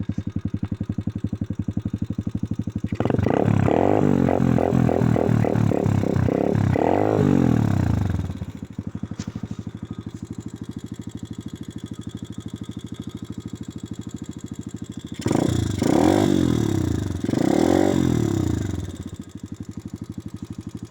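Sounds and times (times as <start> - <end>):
motorbike engine revving and idling: 0.0 - 20.9.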